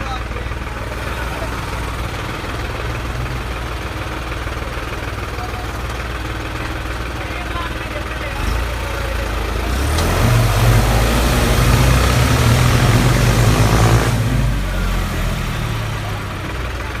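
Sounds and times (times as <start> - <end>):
tractor diesel engine revving: 0.0 - 17.0.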